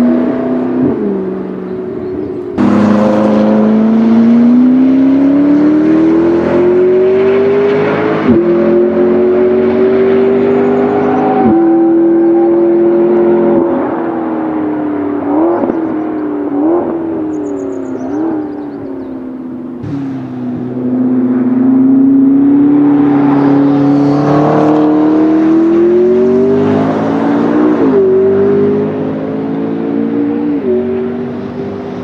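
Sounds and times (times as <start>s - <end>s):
sports car engine revving: 0.0s - 32.0s.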